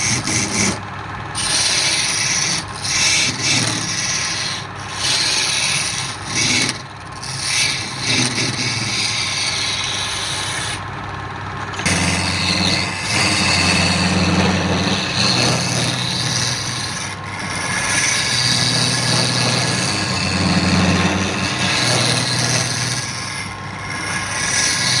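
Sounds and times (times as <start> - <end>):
sanding wood: 0.0 - 0.8, 1.4 - 10.8, 11.8 - 25.0.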